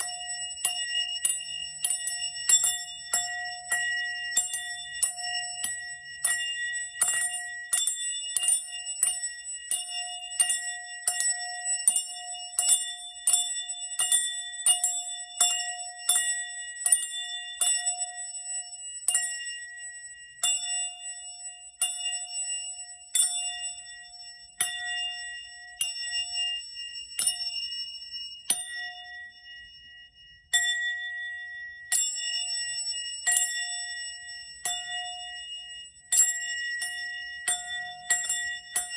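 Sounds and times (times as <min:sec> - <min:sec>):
small bell ringing: 0:00.0 - 0:38.9.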